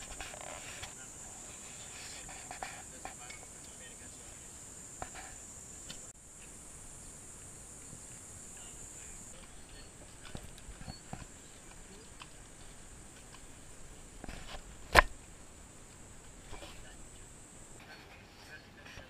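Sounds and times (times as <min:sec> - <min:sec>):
high-pitched insect buzz: 0:00.0 - 0:17.8.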